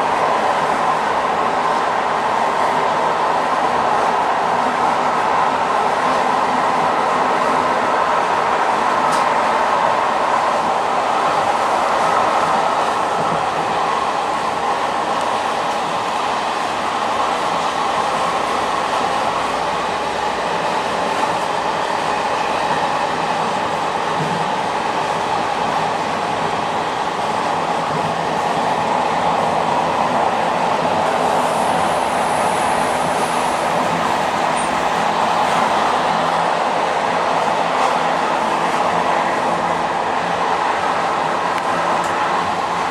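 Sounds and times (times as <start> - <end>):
train wheels on rails: 0.0 - 42.9.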